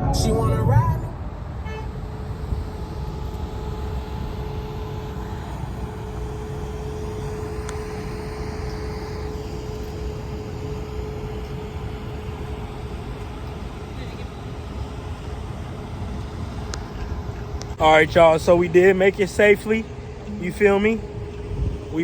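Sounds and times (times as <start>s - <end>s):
car road and engine rumble: 0.0s - 22.0s
thin steady hum: 0.0s - 22.0s.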